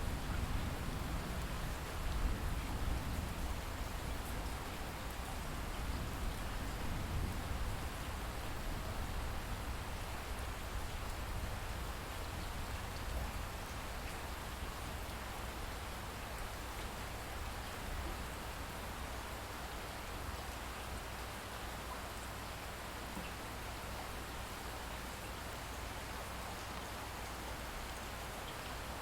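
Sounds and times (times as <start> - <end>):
light rain falling: 0.0 - 29.0.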